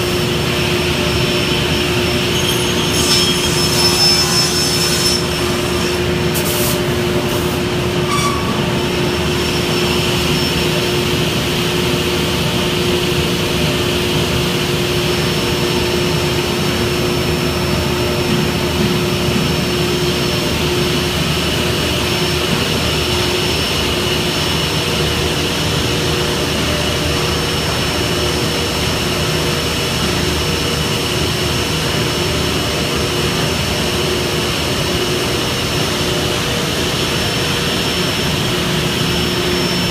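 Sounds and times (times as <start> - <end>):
high machine whine: 0.0 - 39.9
woodworking machinery drone: 0.0 - 39.9.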